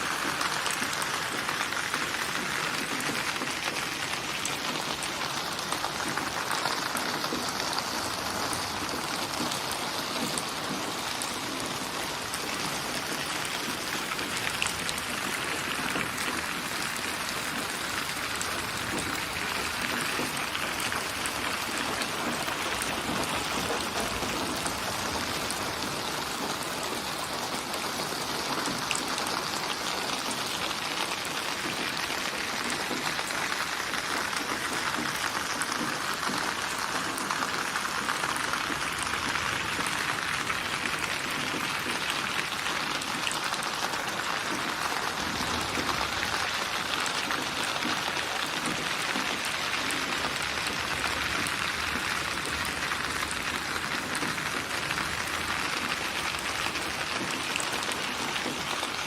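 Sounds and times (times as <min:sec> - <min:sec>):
rain falling: 0:00.0 - 0:59.0
raindrops ticking: 0:00.0 - 0:59.0.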